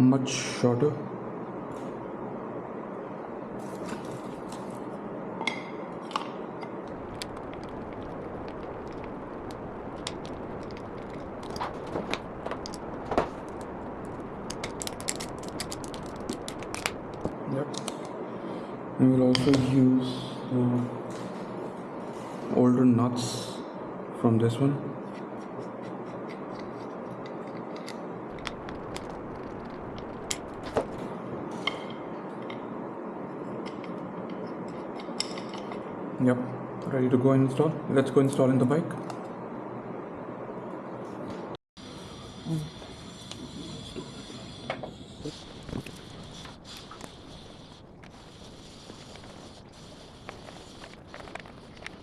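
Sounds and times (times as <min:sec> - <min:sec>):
steady background hiss: 0:00.0 - 0:52.0.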